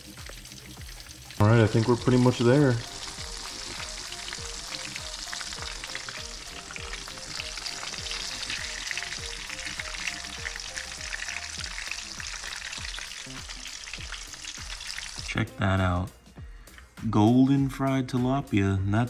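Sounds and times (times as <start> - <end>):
fish frying in hot oil: 0.0 - 15.3
faint background music with beat: 0.0 - 19.0.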